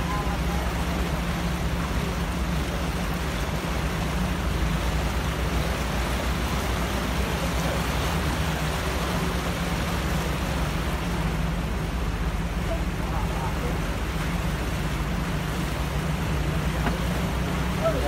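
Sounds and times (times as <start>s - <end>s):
floodwater rushing and churning: 0.0s - 18.0s.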